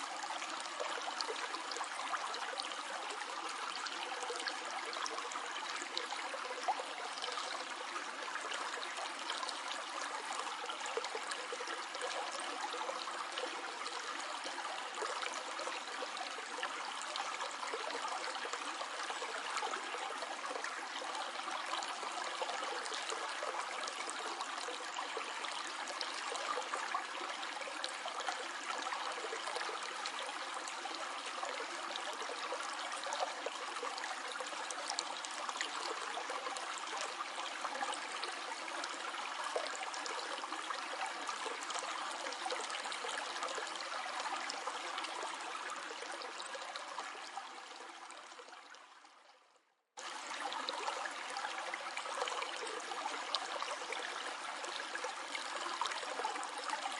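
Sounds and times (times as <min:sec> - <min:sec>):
stream flowing: 0:00.0 - 0:49.1, 0:50.0 - 0:56.9.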